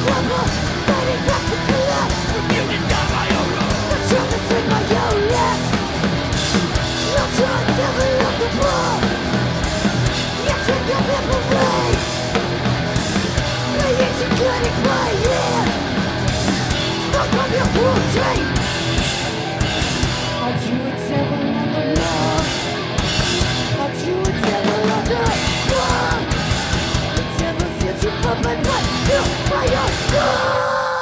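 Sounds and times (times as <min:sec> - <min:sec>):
punk band playing: 0:00.0 - 0:30.7.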